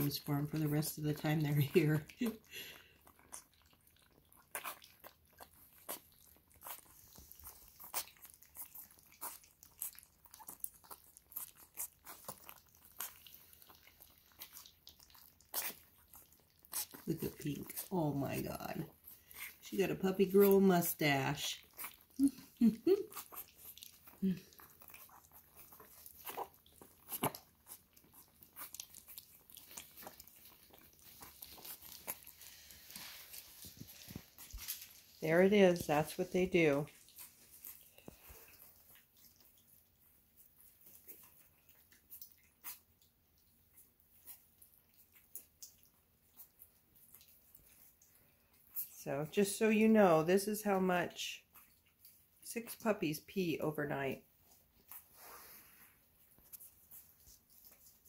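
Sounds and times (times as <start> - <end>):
puppies crunching food: 0.0 - 58.0.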